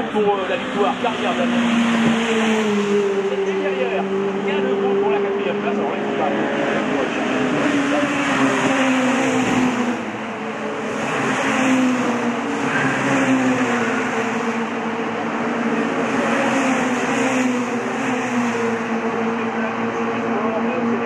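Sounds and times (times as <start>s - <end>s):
race cars passing at high revs: 0.0s - 21.0s.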